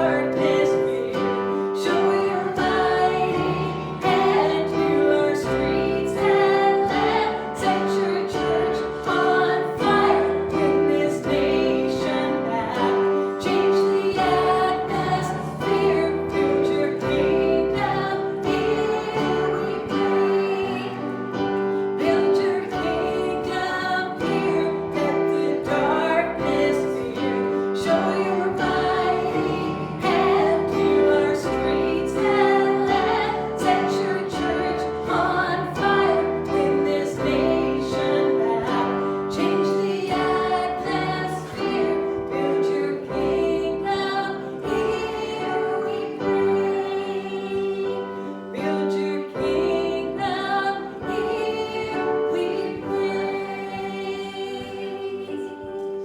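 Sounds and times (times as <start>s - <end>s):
people singing worship song: 0.0s - 56.0s.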